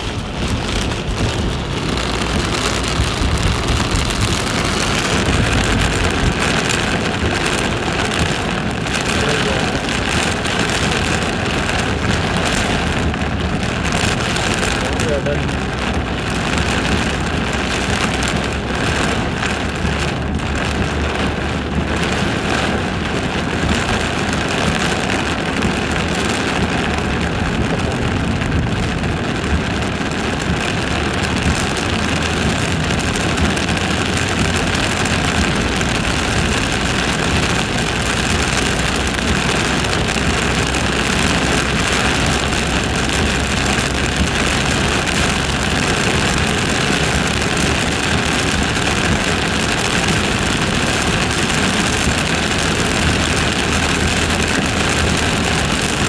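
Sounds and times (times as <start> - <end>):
car engine: 0.0 - 56.0
rain hitting windscreen: 0.0 - 56.0
tyres on wet road: 0.0 - 56.0.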